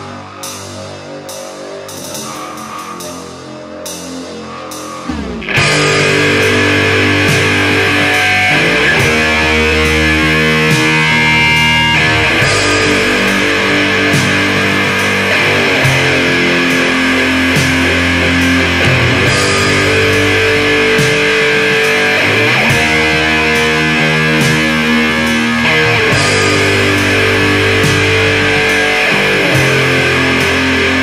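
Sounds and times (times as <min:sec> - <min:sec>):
guitar with sharp repeated hits: 0:00.0 - 0:31.0
heavy metal band playing: 0:00.0 - 0:31.0.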